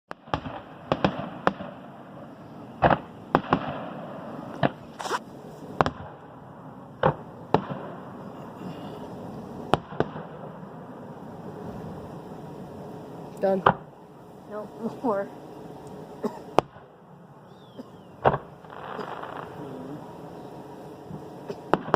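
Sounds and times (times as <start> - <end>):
fireworks banging: 0.1 - 21.9.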